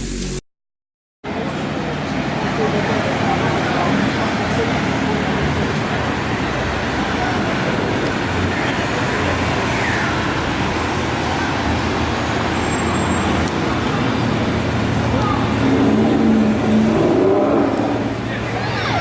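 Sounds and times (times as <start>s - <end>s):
car engines: 1.2s - 19.0s
road traffic: 1.2s - 19.0s.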